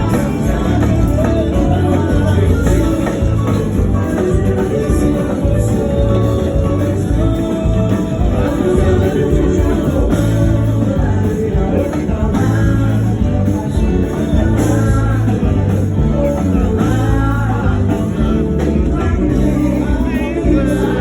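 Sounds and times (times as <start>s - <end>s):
bass and drums: 0.0s - 21.0s
guitar: 0.0s - 21.0s
person singing: 0.0s - 21.0s.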